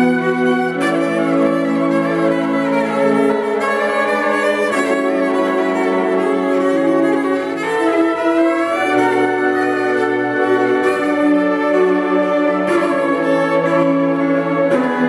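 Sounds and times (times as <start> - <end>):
orchestra strings holding notes: 0.0 - 15.0
solo cello: 0.0 - 15.0.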